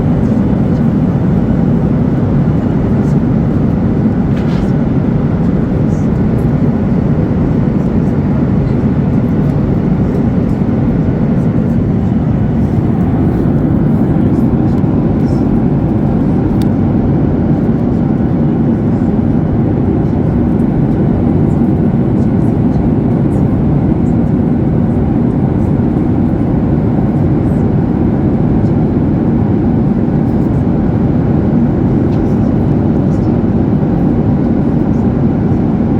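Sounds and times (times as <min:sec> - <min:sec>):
jet engine rumble in cabin: 0:00.0 - 0:35.9.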